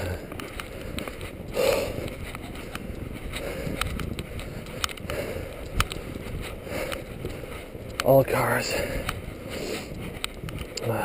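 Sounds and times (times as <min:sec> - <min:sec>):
footsteps in deep snow: 0:00.0 - 0:11.0.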